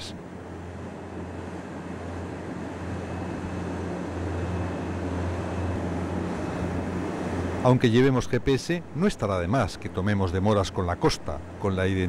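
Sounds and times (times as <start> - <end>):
motorboat engine drone: 0.0 - 12.0.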